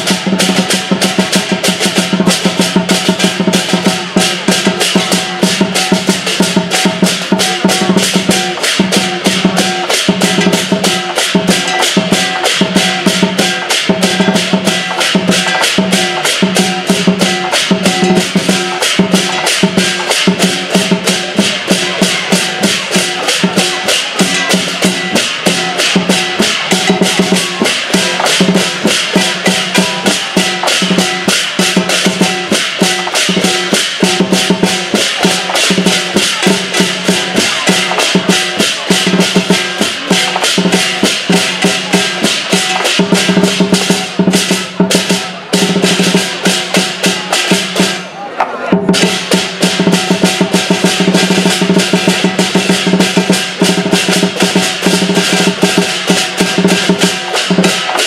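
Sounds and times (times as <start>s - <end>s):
clashing cymbals: 0.0s - 48.1s, 48.9s - 58.0s
large drum beating fast: 0.0s - 58.0s.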